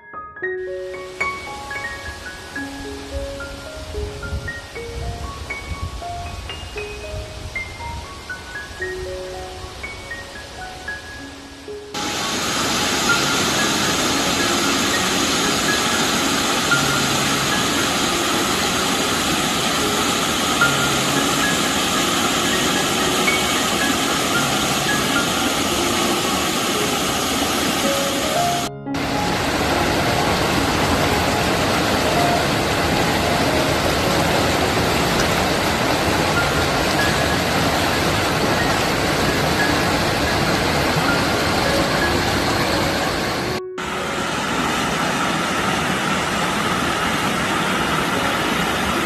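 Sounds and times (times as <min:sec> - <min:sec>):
stream rushing over cascades: 0:00.7 - 0:49.0.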